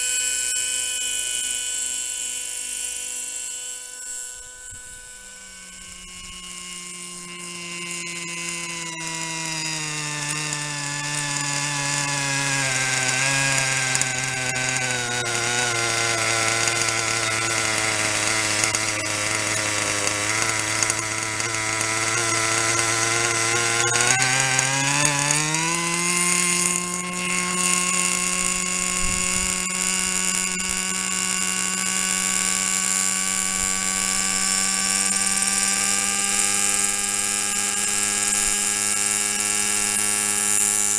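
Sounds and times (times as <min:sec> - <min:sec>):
model helicopter engine running: 0:00.0 - 0:40.9.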